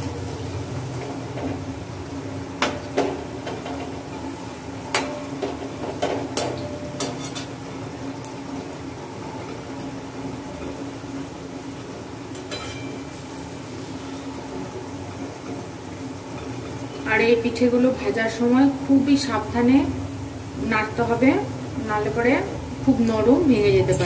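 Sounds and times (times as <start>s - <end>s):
oil frying: 0.0s - 24.0s.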